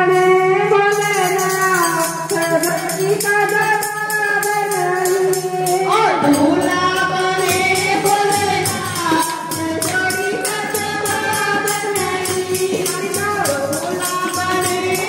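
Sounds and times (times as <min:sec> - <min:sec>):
jingling hand percussion: 0:00.0 - 0:15.0
women singing into a microphone: 0:00.0 - 0:15.0.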